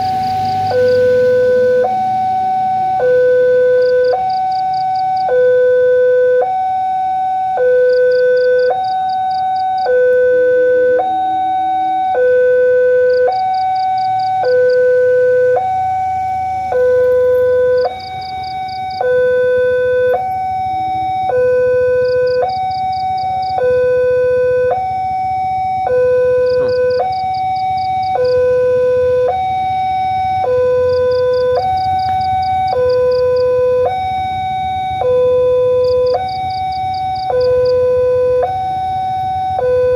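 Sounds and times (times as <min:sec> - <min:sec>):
two-tone electronic crossing alarm: 0:00.0 - 0:39.9.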